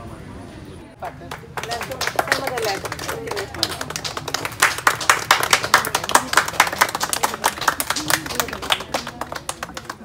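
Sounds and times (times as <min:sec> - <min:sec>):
crowd applauding: 0:01.0 - 0:10.0.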